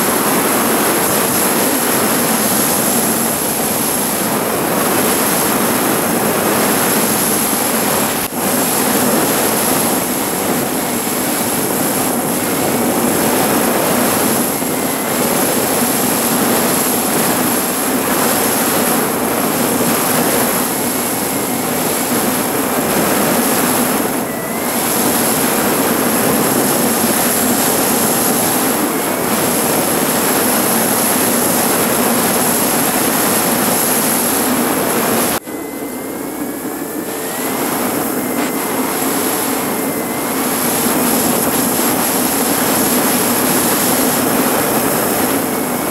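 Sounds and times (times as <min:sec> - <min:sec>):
wind roaring on microphone: 0:00.0 - 0:45.9.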